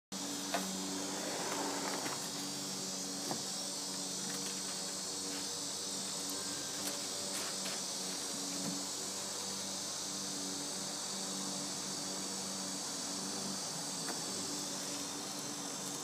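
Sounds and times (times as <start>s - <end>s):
high-pitched insect drone: 0.2s - 16.0s.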